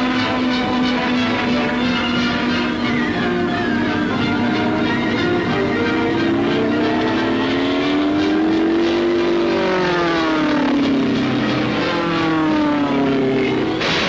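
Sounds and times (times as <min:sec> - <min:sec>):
aircraft engine droning: 0:00.0 - 0:14.0.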